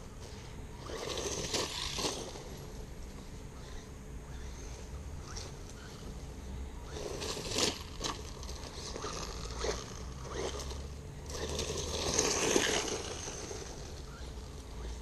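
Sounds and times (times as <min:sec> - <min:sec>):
toy truck tyres crunching on dirt: 0:00.0 - 0:06.2, 0:06.8 - 0:15.0.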